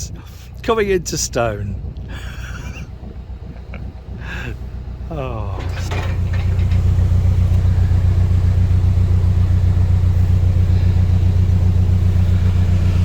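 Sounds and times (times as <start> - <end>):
boat diesel engine thrumming: 0.0 - 13.0.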